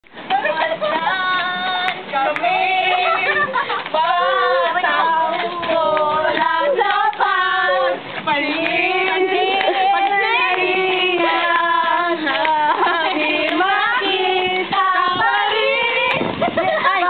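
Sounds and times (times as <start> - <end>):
girls singing together: 0.3 - 17.0.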